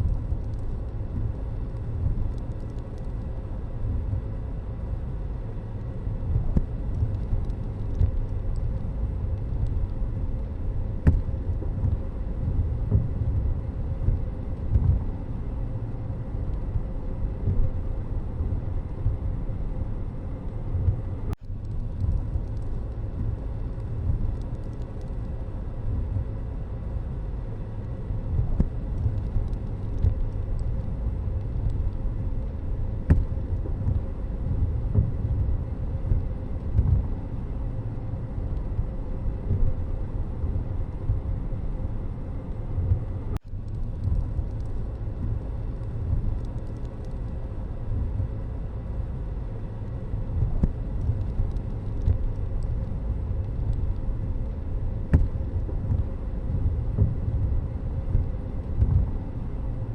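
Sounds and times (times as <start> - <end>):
low rumble of traffic: 0.0 - 59.9.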